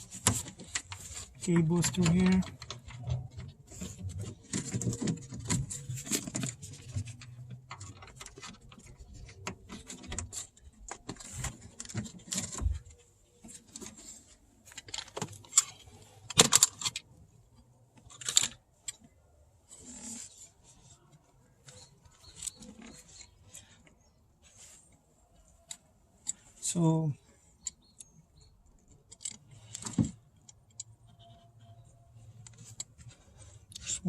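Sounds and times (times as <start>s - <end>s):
cables clicking and rattling: 0.0s - 24.2s, 25.1s - 34.0s.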